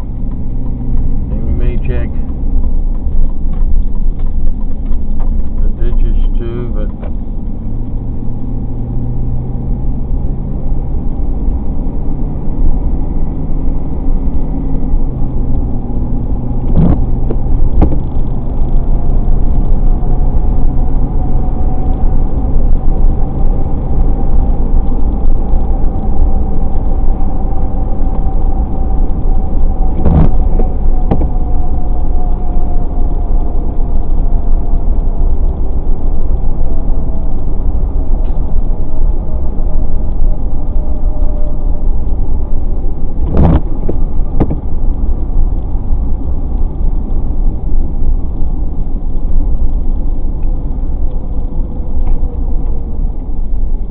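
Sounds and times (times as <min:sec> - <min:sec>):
car engine hum: 0:00.0 - 0:53.9
road noise rumble inside car: 0:00.0 - 0:53.9.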